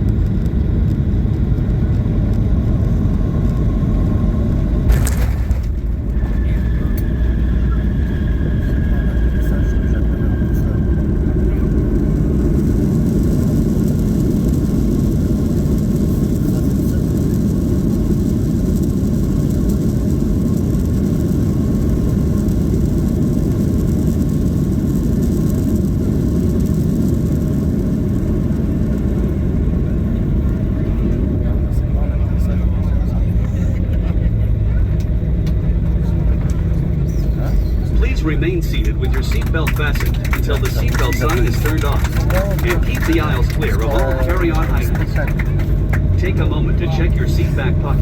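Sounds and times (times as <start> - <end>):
faint engine whine: 0.0 - 48.0
jet engine cabin rumble: 0.0 - 48.0.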